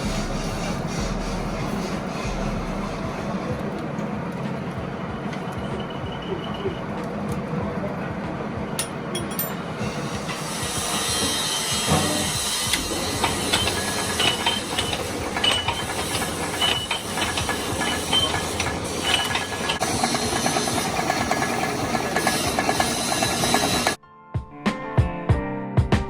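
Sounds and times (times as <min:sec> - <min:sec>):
machine running with hiss: 0:00.0 - 0:06.9, 0:09.6 - 0:24.0.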